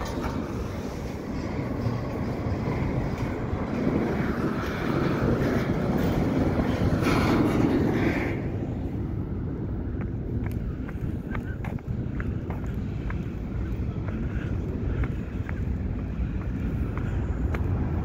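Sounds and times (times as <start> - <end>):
train wheels rumbling and rattling: 0.0 - 18.0.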